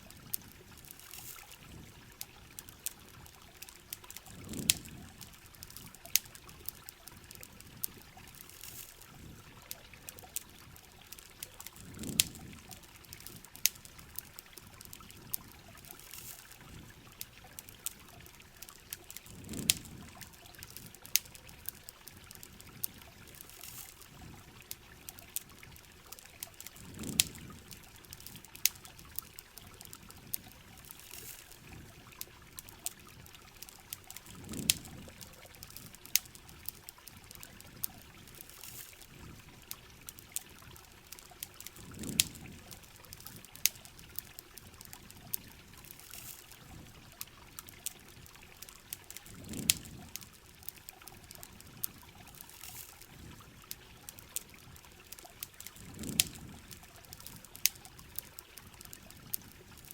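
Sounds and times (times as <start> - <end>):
campfire crackles and pops: 0.0 - 59.9
rain trickling and pouring: 0.0 - 59.9.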